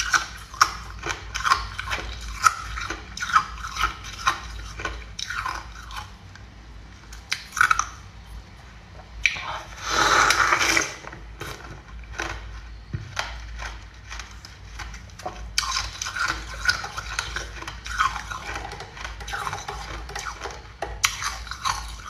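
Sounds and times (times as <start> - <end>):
ice crunching being chewed: 0.0 - 6.2, 9.2 - 22.0.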